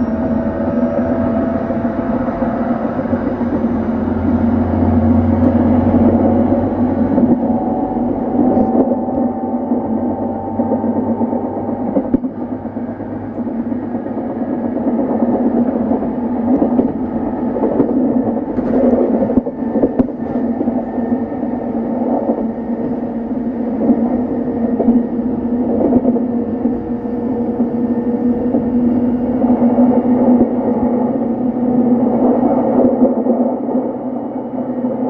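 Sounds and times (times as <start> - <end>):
electric train motor hum and whine: 0.0 - 35.0
wheels rumbling on rails: 0.0 - 35.0.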